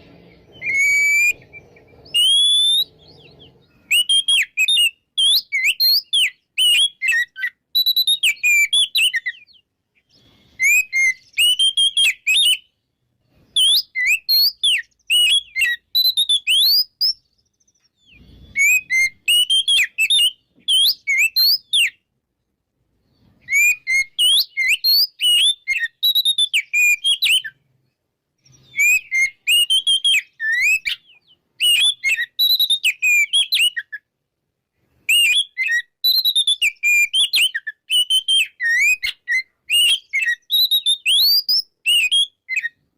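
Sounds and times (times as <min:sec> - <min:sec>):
bird singing whistles and chirps: 0:00.0 - 0:22.1, 0:23.0 - 0:34.1, 0:34.9 - 0:42.9.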